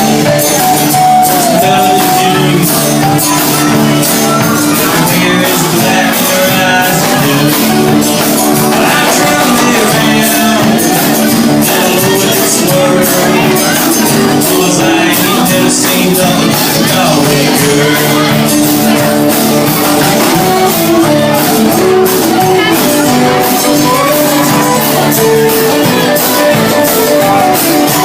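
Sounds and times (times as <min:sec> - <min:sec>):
live band playing loud music: 0:00.0 - 0:28.0.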